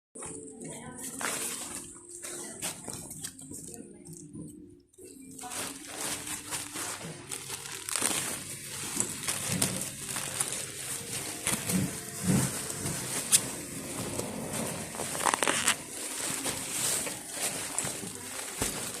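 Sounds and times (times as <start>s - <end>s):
packaging crinkling and rustling: 1.0s - 3.7s, 5.2s - 19.0s.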